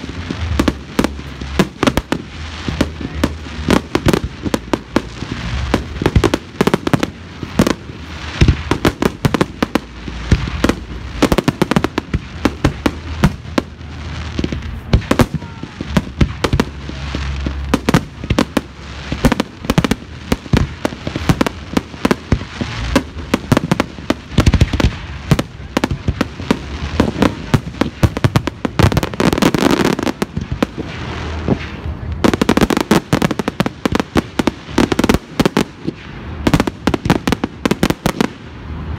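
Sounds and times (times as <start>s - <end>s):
fireworks bangs: 0.0s - 38.9s
fireworks crackle: 0.0s - 38.9s.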